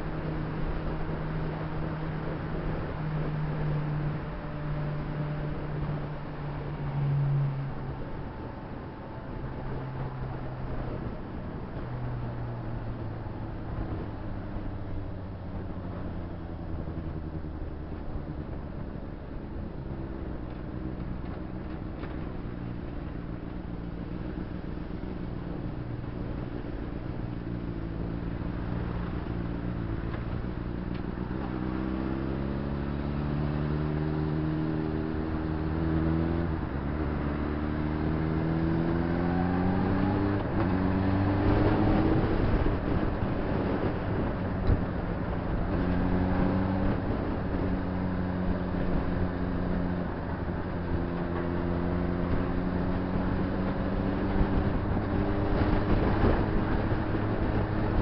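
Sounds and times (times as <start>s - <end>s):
motorcycle engine revving through gears: 0.0s - 58.0s
wind and road noise: 0.0s - 58.0s.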